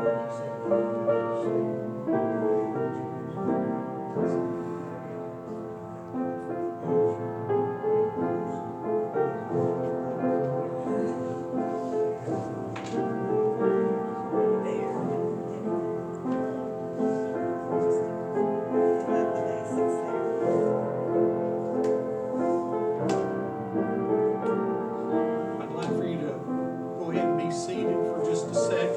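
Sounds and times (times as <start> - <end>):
slow solo piano: 0.0 - 28.9.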